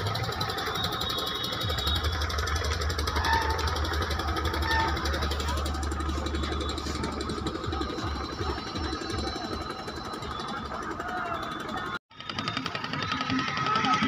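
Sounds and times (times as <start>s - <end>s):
engine running with throb: 0.0s - 14.0s
outdoor din: 0.0s - 14.0s.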